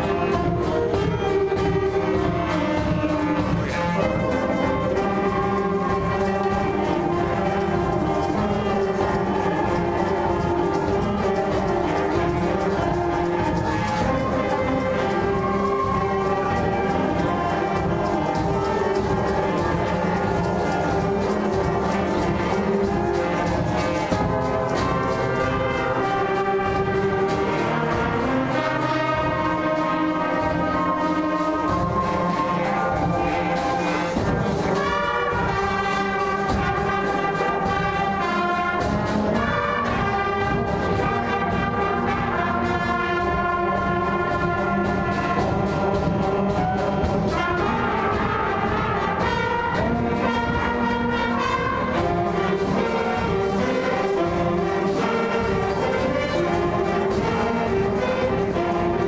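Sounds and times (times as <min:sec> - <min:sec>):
concert band playing: 0:00.0 - 0:59.0.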